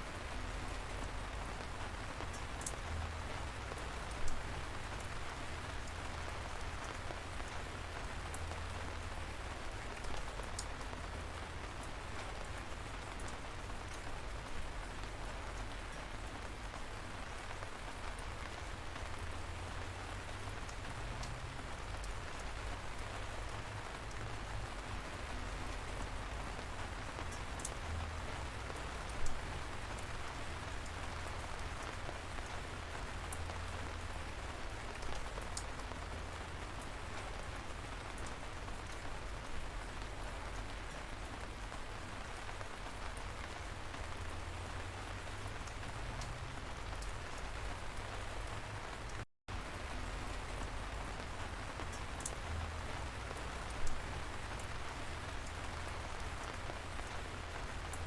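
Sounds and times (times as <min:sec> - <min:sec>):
light rain falling: 0:00.0 - 0:58.0
raindrops ticking: 0:00.2 - 0:58.0.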